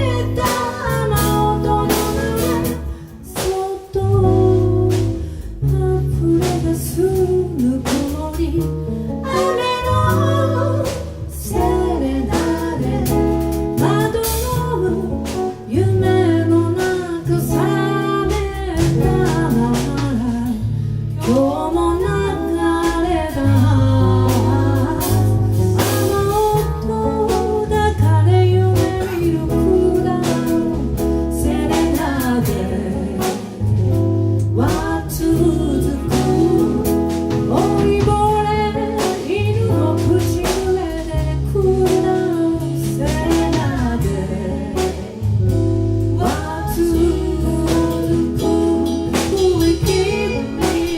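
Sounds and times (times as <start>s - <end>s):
bass guitar: 0.0s - 50.9s
drum kit beat: 0.0s - 50.9s
live band playing slow song: 0.0s - 50.9s.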